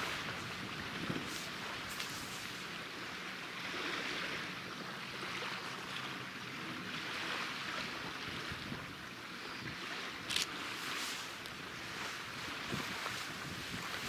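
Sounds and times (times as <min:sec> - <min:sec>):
waves on choppy sea: 0:00.0 - 0:14.0
wind: 0:00.0 - 0:14.0.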